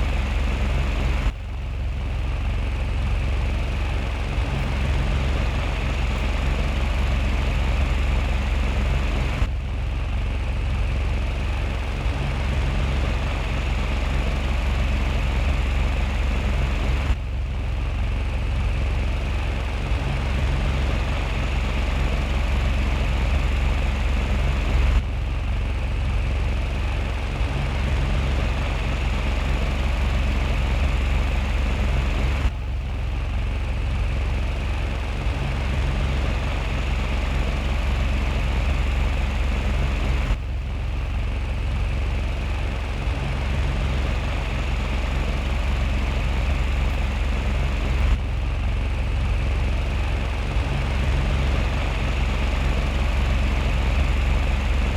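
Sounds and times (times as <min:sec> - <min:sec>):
fan blades whirring: 0:00.0 - 0:54.9.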